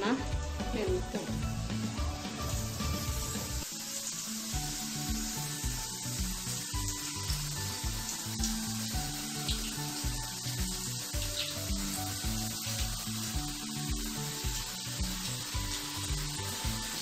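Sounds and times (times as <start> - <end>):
background music with a beat: 0.0 - 17.0
potato slices sizzling in hot oil: 0.0 - 17.0.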